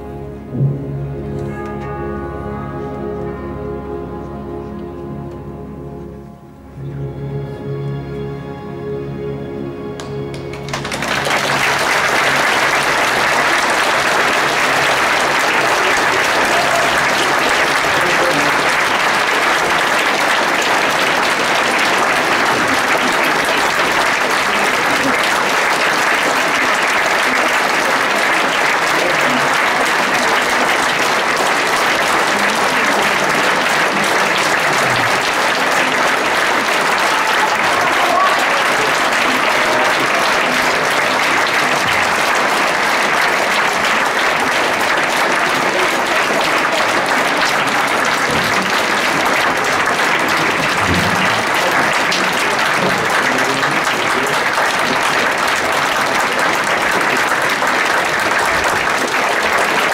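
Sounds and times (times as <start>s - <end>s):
audience applauding: 9.9s - 59.9s.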